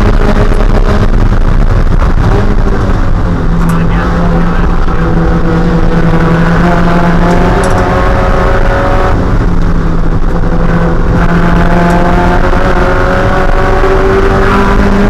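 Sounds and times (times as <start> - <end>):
race car engine accelerating: 0.0 - 15.0.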